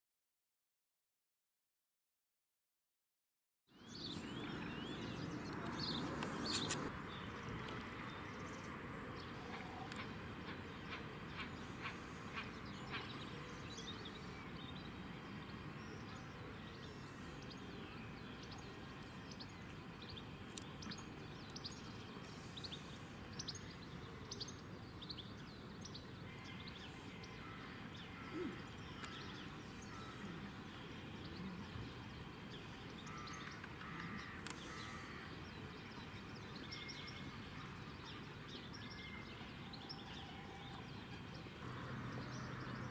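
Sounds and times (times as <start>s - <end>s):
small birds chirping and calling: 3.8s - 42.9s.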